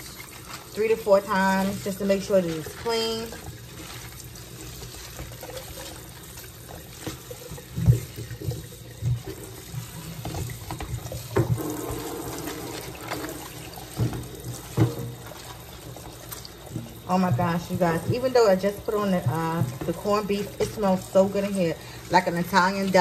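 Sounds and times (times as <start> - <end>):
faucet running into sink: 0.0 - 23.0
hands rinsing leaves: 0.0 - 23.0.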